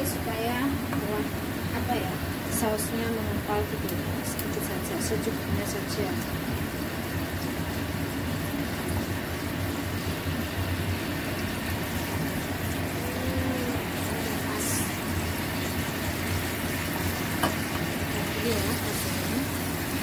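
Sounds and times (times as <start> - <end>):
sauce bubbling in a pot: 0.5 - 20.0.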